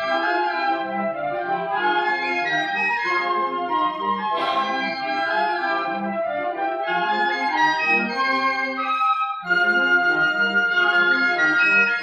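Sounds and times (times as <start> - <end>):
instrumental ensemble music: 0.0 - 12.0.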